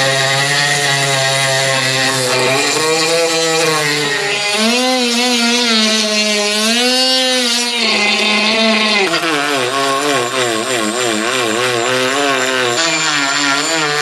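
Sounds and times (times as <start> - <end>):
die grinder sanding metal: 0.0 - 14.0.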